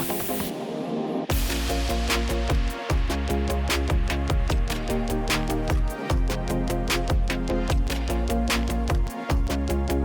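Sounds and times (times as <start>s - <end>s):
electronic music with fast beat: 0.0s - 10.0s.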